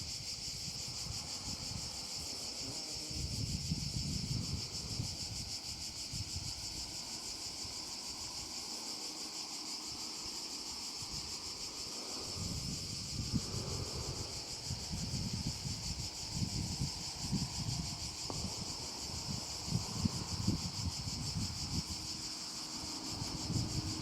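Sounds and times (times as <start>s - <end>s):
wind rumbling on microphone: 0.0s - 8.4s, 11.0s - 24.0s
shrill insect chorus: 0.0s - 24.0s.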